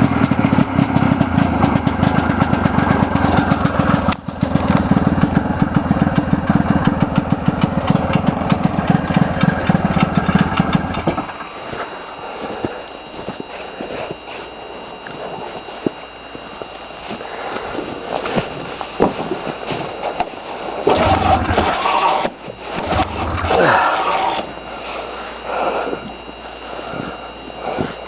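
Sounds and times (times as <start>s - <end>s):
snowmobile engine running: 0.0s - 28.0s.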